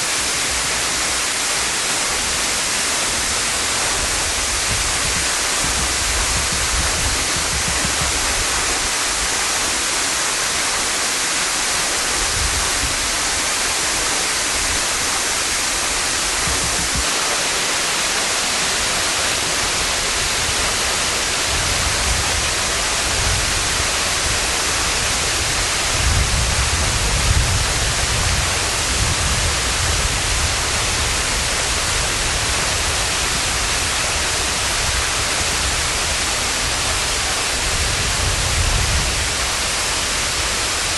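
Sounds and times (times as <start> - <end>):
waterfall hissing: 0.0 - 40.9.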